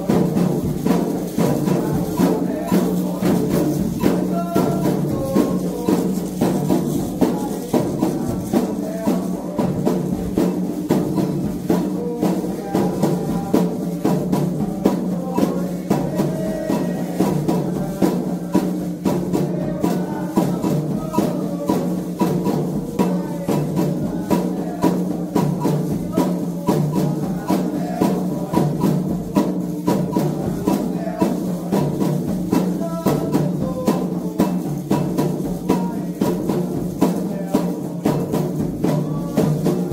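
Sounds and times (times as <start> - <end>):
hand drums and percussion: 0.0 - 39.9
voices singing a chant: 0.0 - 39.9.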